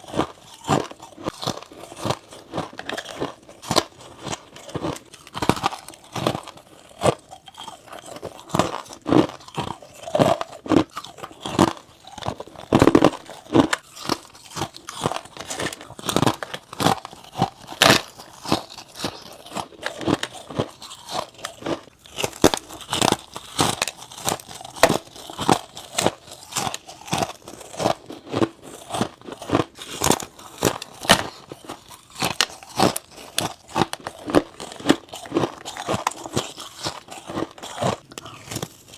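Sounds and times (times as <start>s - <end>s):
frost being chewed crunching: 0.0s - 38.9s.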